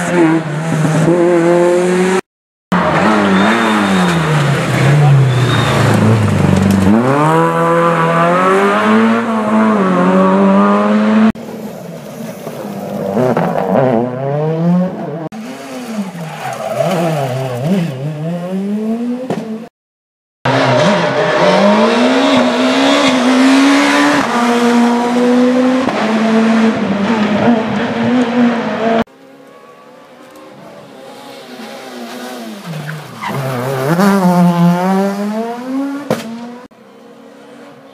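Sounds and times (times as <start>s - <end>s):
rally car engines revving: 0.0s - 19.7s, 20.5s - 37.9s.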